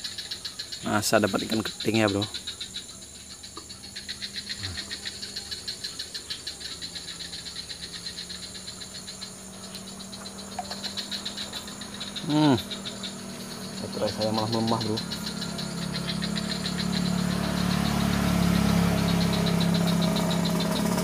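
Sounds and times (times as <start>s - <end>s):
insects chirping rhythmically: 0.0s - 21.0s.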